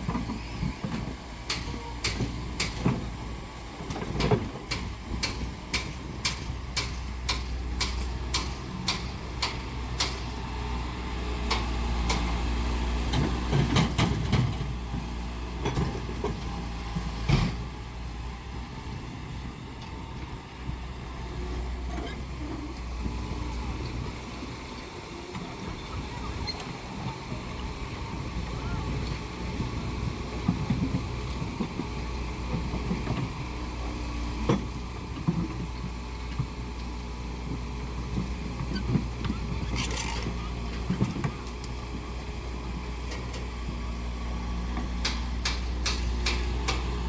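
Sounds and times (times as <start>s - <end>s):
construction machinery engine hum: 0.0s - 47.0s.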